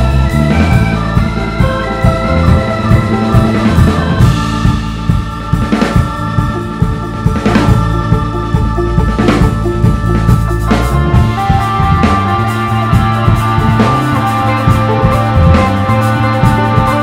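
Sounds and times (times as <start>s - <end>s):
drum kit beat: 0.0s - 17.0s
sustained instrument tones: 0.0s - 17.0s.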